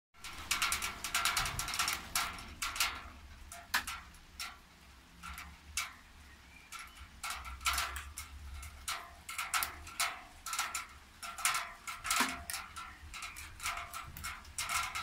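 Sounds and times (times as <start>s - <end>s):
raindrops tapping on hard surface: 0.2s - 15.0s.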